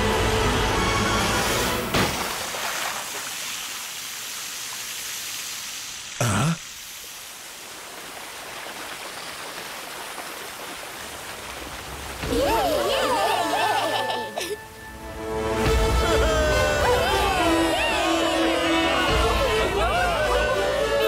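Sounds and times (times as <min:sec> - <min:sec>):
pouring water rushing: 0:00.1 - 0:21.0.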